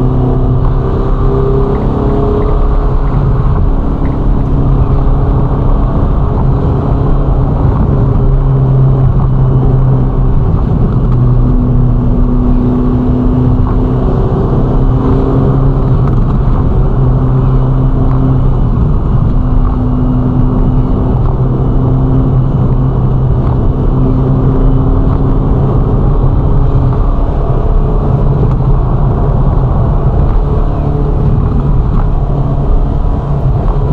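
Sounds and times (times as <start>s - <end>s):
car engine cruising: 0.0s - 33.9s
road and tyre noise: 0.0s - 33.9s.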